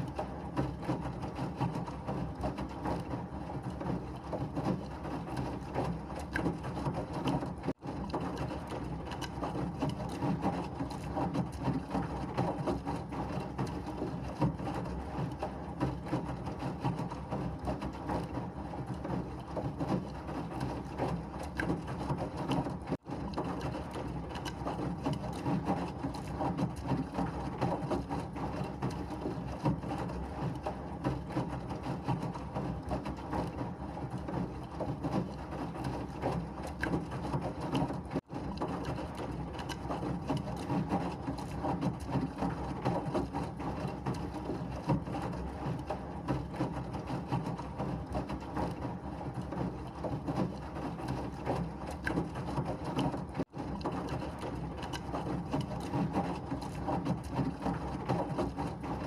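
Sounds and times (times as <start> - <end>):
washing machine churning: 0.0 - 59.0.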